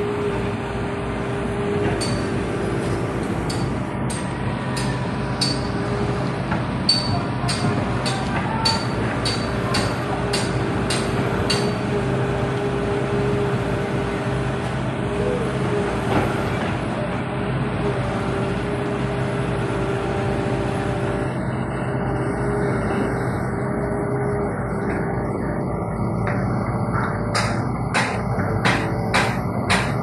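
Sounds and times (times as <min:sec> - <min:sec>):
diesel machine rumbling: 0:00.0 - 0:30.0.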